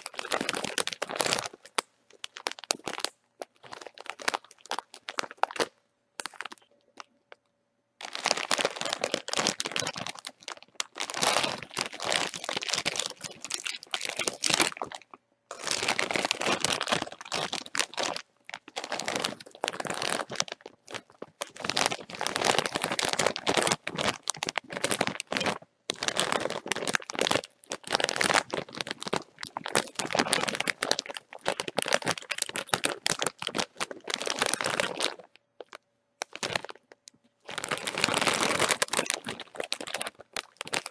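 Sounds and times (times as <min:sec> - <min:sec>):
chip bag crinkling: 0:00.0 - 0:07.1, 0:08.0 - 0:40.9.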